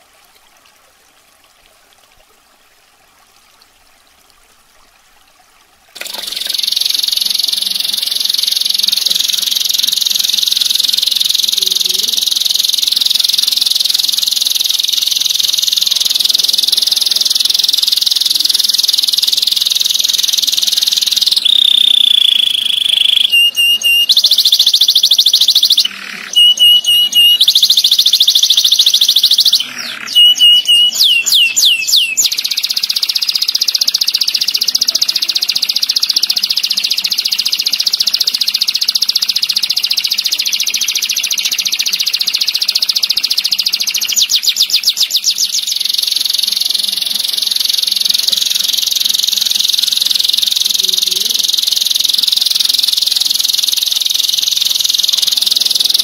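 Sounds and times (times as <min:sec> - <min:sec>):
canary singing trills and whistles: 0:06.0 - 0:56.0.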